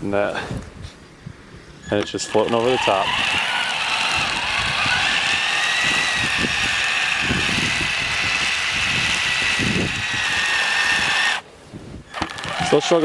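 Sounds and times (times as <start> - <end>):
electric motor whining: 1.9 - 11.4, 12.1 - 13.0.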